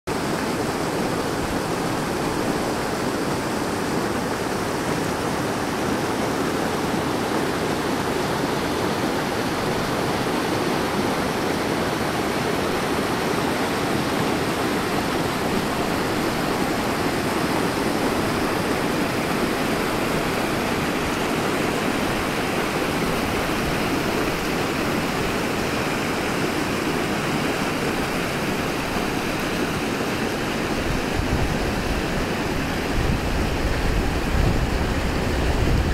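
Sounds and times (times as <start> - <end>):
stream rushing over rocks: 0.1 - 35.9.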